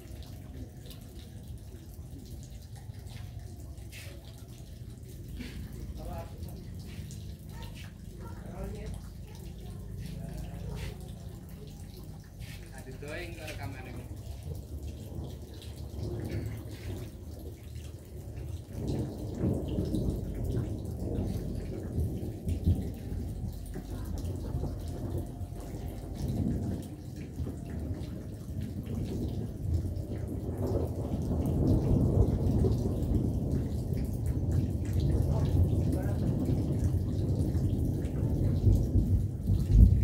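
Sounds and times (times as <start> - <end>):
raindrops ticking: 0.0 - 40.0
steady rain: 0.0 - 40.0
thunder rumbling: 0.0 - 40.0.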